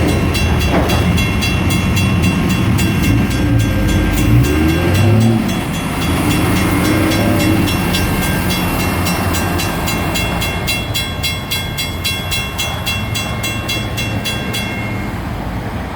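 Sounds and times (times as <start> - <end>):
crossing bells ringing: 0.0 - 15.9
freight train rumbling: 0.0 - 15.9.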